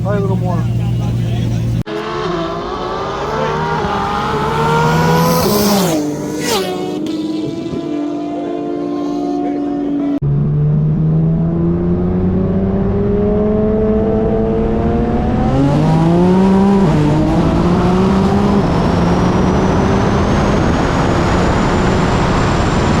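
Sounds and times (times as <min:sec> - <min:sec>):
engines at full throttle: 0:00.0 - 0:23.0
wind and road noise: 0:00.0 - 0:23.0.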